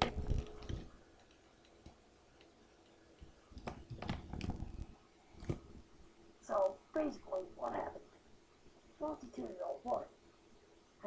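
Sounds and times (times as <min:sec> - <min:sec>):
faint clicks and rustling: 0:00.0 - 0:09.6
faint steady hum: 0:00.0 - 0:11.0.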